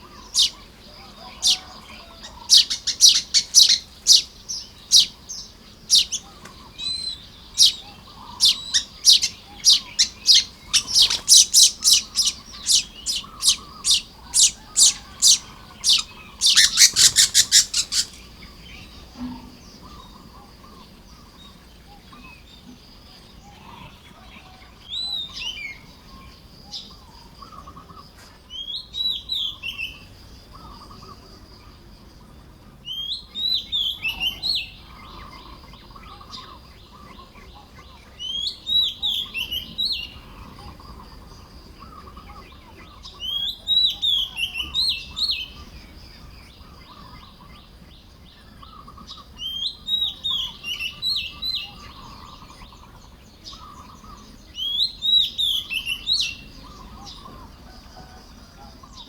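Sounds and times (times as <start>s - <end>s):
birds chattering chirps: 0.0s - 59.0s
faint bird chatter: 0.0s - 59.0s.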